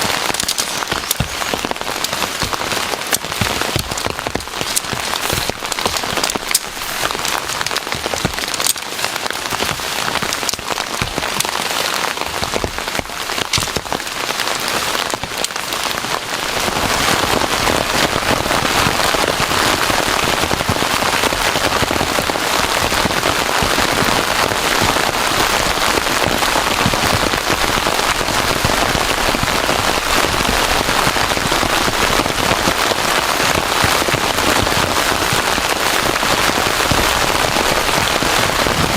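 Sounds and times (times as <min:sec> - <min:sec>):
heavy rain falling: 0:00.0 - 0:38.9
sharp raindrop strikes: 0:00.0 - 0:38.9.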